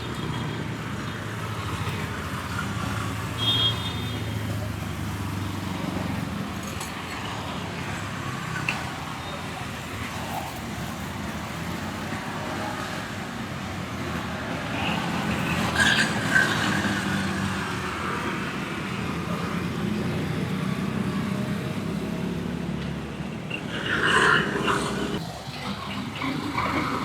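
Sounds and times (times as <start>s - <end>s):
roadside traffic noise: 0.0s - 27.0s.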